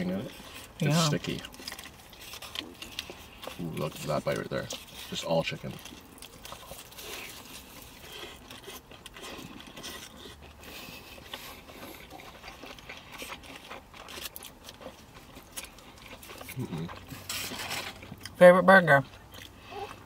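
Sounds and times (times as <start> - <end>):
chewing and biting food: 0.0 - 20.0.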